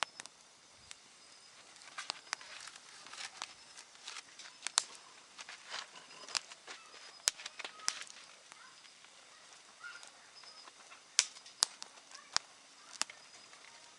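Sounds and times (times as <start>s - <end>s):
campfire crackling and popping: 0.0s - 13.9s.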